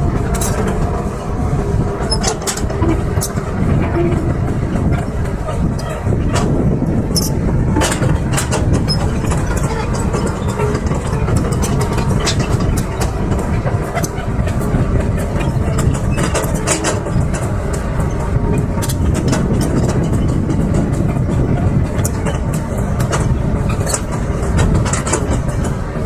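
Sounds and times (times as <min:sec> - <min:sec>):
diesel machinery running: 0:00.0 - 0:26.0
metallic clanks and knocks: 0:00.2 - 0:01.1, 0:02.0 - 0:26.0.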